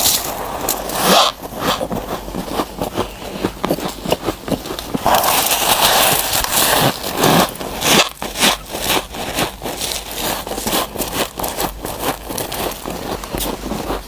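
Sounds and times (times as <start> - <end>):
crunching frost while chewing: 0.0 - 14.0.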